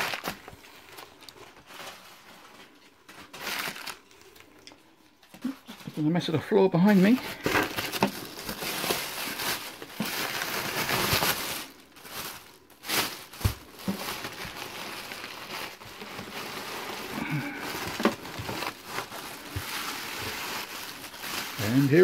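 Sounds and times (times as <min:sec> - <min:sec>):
plastic bags and newspaper rustling: 0:00.0 - 0:22.0.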